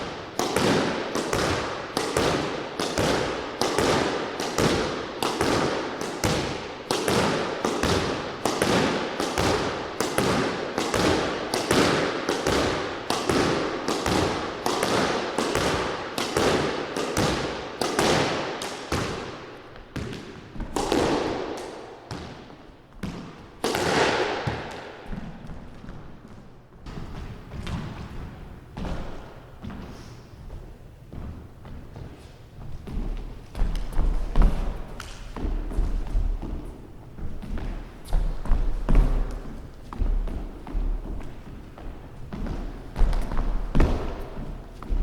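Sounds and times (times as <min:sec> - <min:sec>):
squash ball hits echoing: 0:00.0 - 0:45.0.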